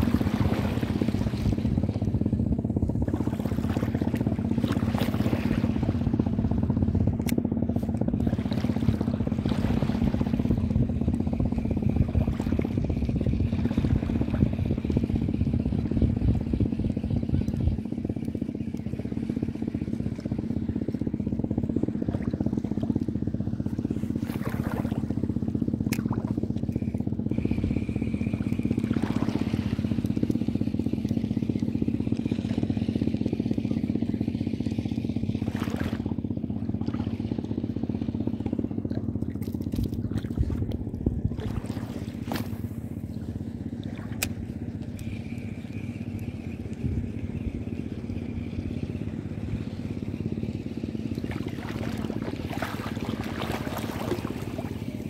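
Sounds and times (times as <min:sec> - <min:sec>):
engine hum: 0:00.0 - 0:55.0.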